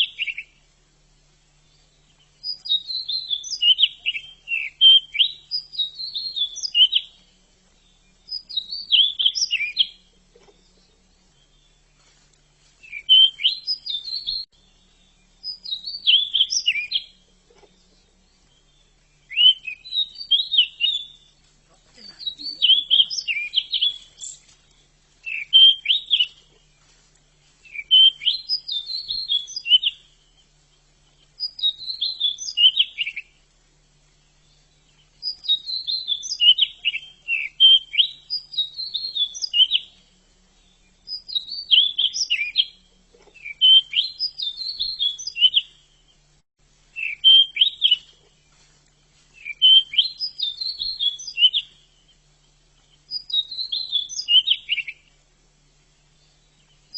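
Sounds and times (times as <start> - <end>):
bird singing warbled phrases: 0.0 - 56.9.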